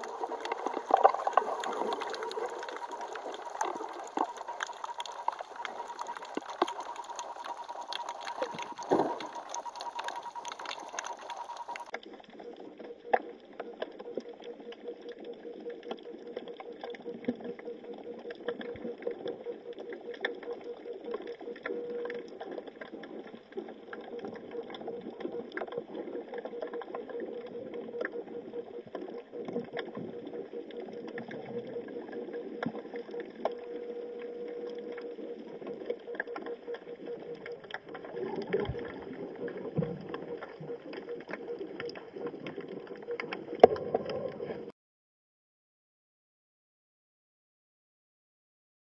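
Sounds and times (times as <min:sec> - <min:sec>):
crackling clicks: 0:00.0 - 0:44.7
underwater hum: 0:00.0 - 0:44.7.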